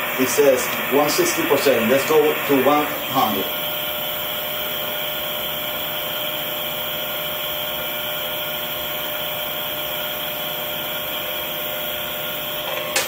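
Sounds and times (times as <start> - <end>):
electrical noise hiss: 0.0 - 13.0.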